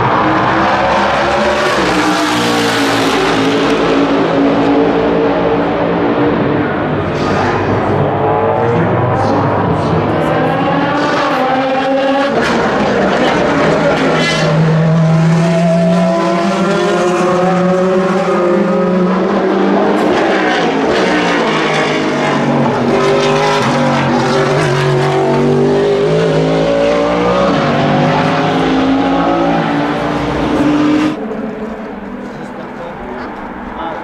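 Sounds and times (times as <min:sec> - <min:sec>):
distant race car engine: 0:00.0 - 0:34.0
race car engine passing: 0:00.0 - 0:34.0.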